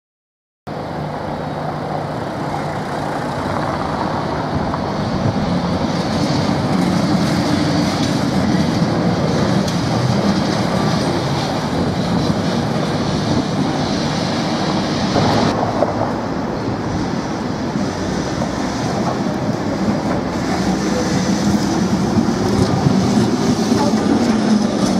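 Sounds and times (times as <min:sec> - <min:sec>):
tram wheels clattering on rails: 0:01.0 - 0:24.9.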